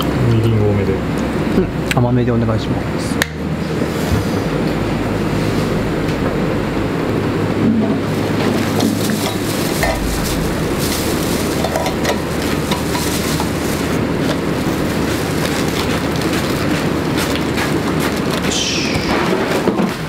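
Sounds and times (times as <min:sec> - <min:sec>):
low hum: 0:00.0 - 0:19.8
rushing rumble: 0:00.0 - 0:20.0.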